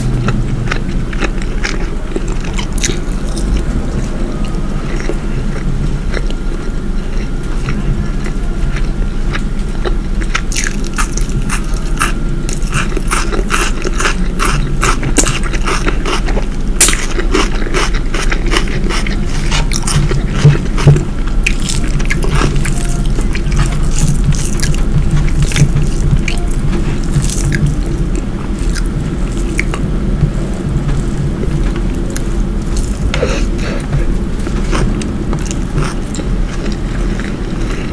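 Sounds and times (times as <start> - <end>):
low hum: 0.0 - 37.9.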